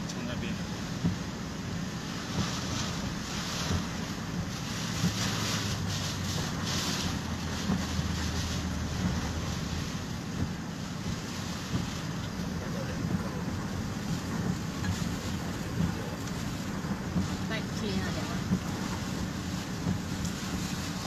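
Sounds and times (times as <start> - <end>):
engine and road rumble: 0.0 - 21.0
heavy rain rushing: 0.0 - 21.0
windshield wiper knocking: 0.0 - 21.0.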